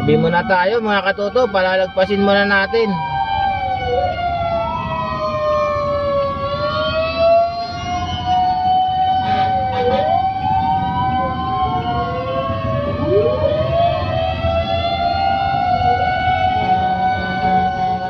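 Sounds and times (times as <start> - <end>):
emergency sirens wailing: 0.0 - 18.0
truck engines rumbling: 0.0 - 18.0.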